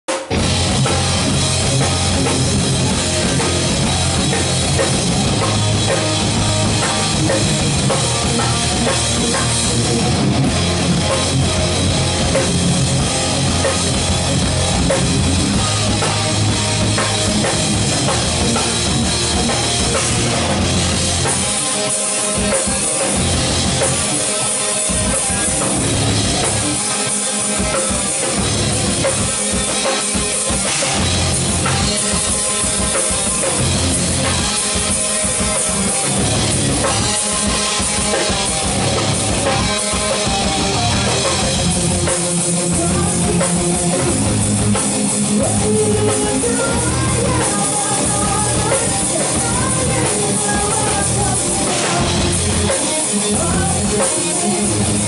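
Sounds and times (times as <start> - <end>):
distorted electric guitars: 0.0 - 55.0
drum kit: 0.0 - 55.0.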